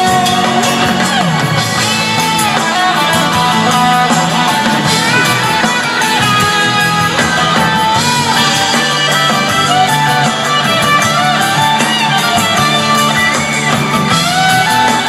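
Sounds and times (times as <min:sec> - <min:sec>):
electric guitar lead line: 0:00.0 - 0:15.0
live rock band playing: 0:00.0 - 0:15.0.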